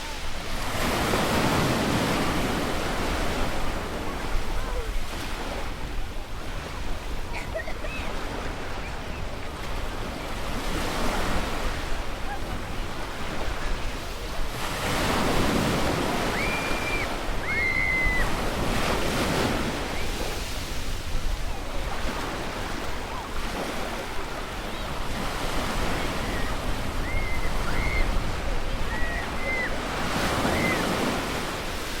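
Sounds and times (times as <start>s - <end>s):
ocean surf on beach: 0.0s - 32.0s.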